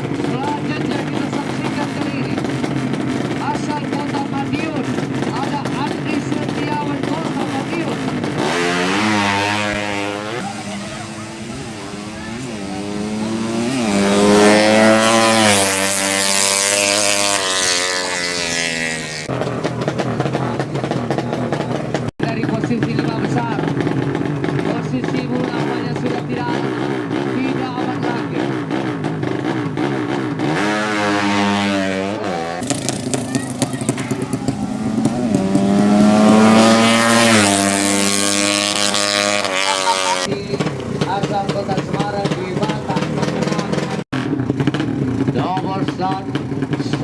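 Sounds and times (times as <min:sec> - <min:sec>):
motorbike engine passing: 0:00.0 - 0:47.0.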